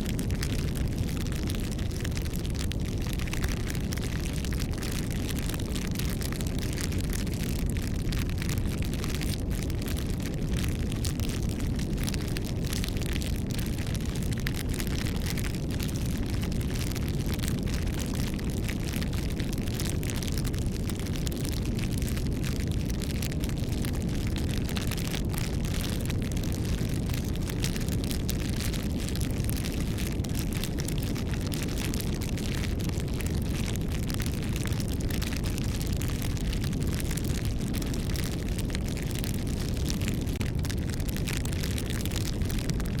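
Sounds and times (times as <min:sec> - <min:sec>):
wood fire burning: 0:00.0 - 0:43.0.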